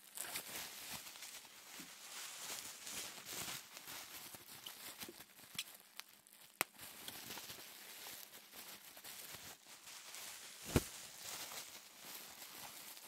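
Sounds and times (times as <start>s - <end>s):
bubble wrap crinkling: 0.0s - 13.0s
bubble wrap popping: 0.0s - 13.0s.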